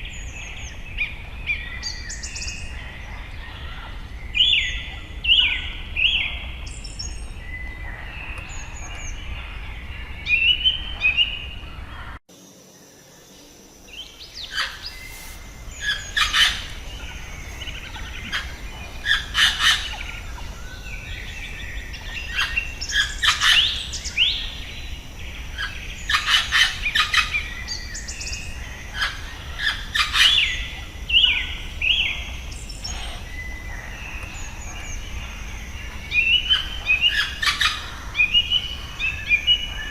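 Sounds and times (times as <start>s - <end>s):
bird calls and trills: 0.0s - 39.9s
birds chirping: 0.0s - 39.9s
low steady hum: 0.0s - 39.9s.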